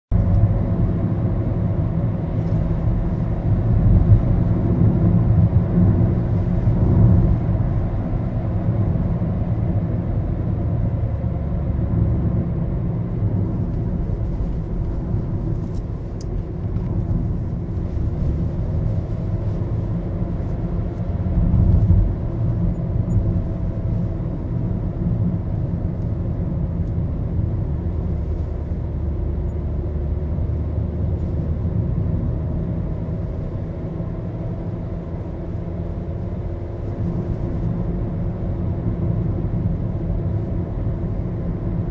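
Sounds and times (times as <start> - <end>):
road and engine rumble in car: 0.1 - 41.9.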